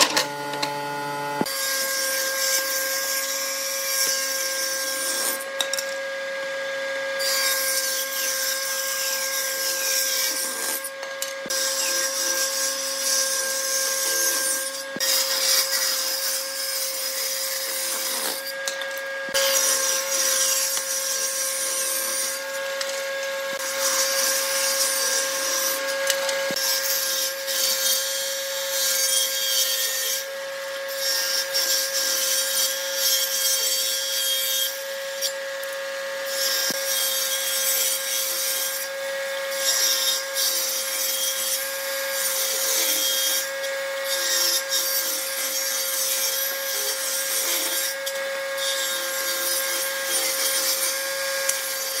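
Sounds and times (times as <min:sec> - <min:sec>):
saw cutting wood: 0:00.0 - 0:52.0
table saw blade hum: 0:00.0 - 0:52.0.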